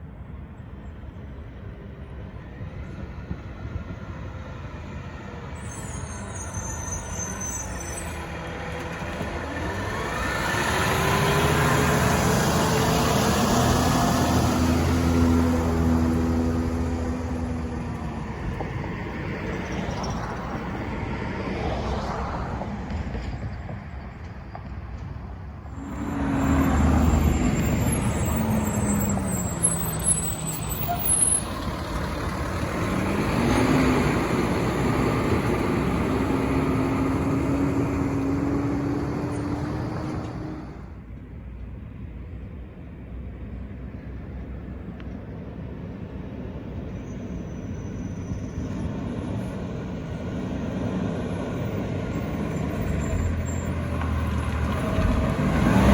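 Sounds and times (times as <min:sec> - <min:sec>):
garbage truck engines: 0:00.9 - 0:20.9, 0:25.0 - 0:41.4, 0:44.2 - 0:55.9.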